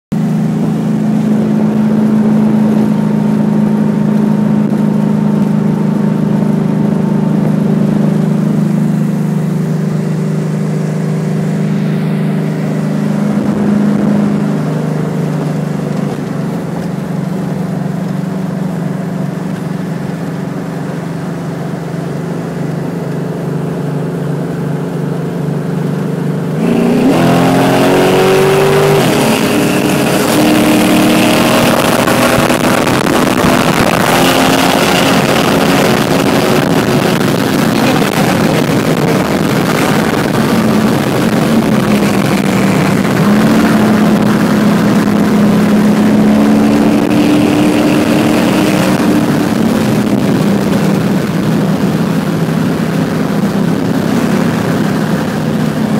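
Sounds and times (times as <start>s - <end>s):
car engine droning from cabin: 0.1s - 55.9s.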